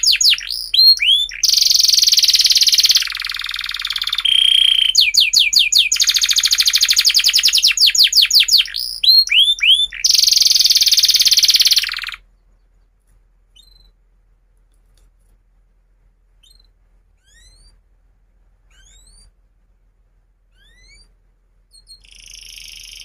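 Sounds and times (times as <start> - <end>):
canary singing trills: 0.0 - 14.0, 16.4 - 17.8, 18.6 - 19.4, 20.5 - 23.0
soft bird chirps: 0.0 - 14.0, 16.4 - 17.8, 18.6 - 19.4, 20.5 - 23.0.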